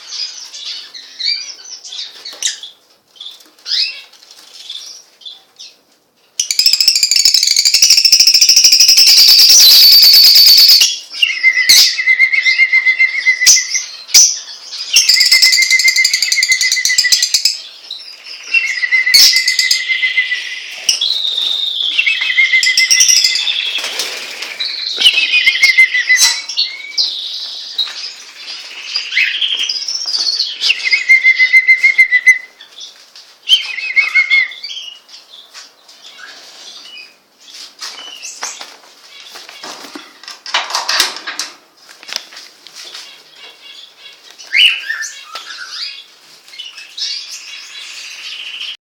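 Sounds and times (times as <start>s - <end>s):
songbirds singing with trills: 0.0s - 40.3s, 42.9s - 48.8s.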